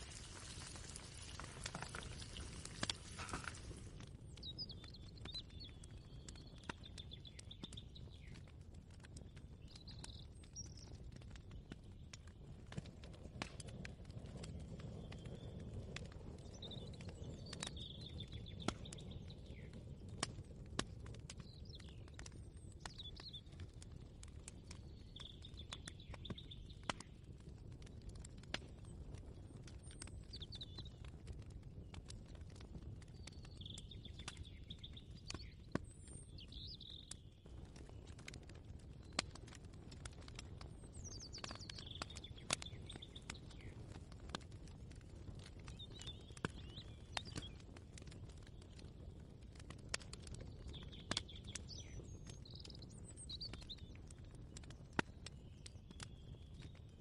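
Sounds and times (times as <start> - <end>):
small birds chirping: 0.0 - 12.5, 14.2 - 20.5, 21.3 - 57.0.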